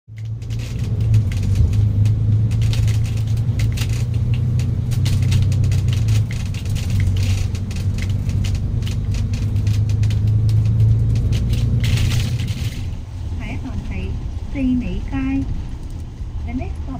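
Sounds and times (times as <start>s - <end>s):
bus body rattles and clicks: 0.1s - 16.9s
bus engine rumble: 0.1s - 16.9s.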